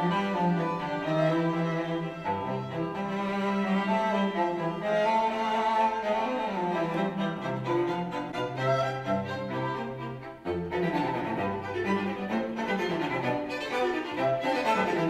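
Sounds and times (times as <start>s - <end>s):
classical music through speakers: 0.0s - 15.0s.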